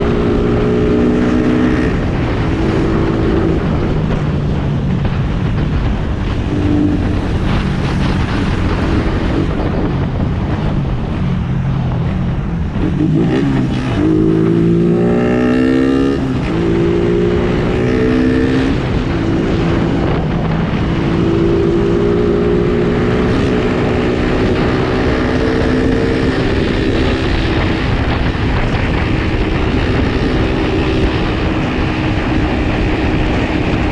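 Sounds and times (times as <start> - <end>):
motorcycle engine revving: 0.0 - 33.9
wind and road noise: 0.0 - 33.9.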